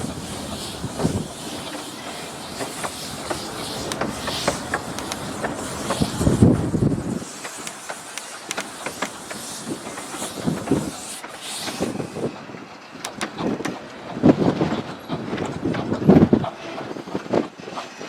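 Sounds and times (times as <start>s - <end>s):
train running on track: 0.0s - 18.0s.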